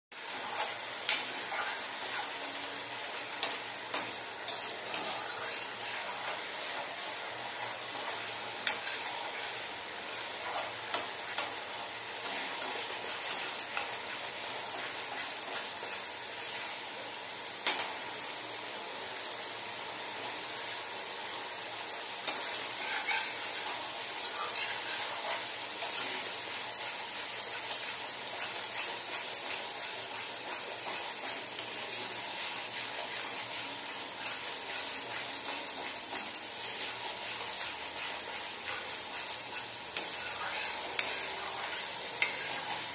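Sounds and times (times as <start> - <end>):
paste sizzling in oil: 0.1 - 42.9
metal spatula scraping pan: 0.3 - 11.6, 12.2 - 16.7, 22.2 - 42.9.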